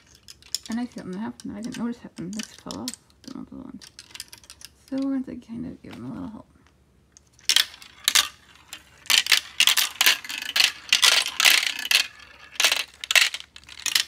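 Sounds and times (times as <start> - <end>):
marbles clattering down plastic run: 0.0 - 5.0, 7.4 - 14.0.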